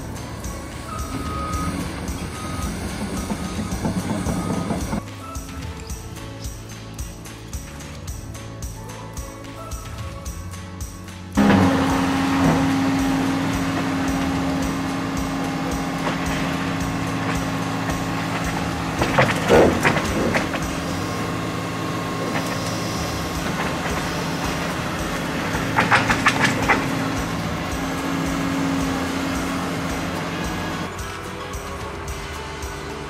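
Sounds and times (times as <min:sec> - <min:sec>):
rattling bursts: 0:00.0 - 0:05.1, 0:11.4 - 0:33.0
excavator diesel engine running: 0:00.0 - 0:07.2, 0:11.4 - 0:33.0.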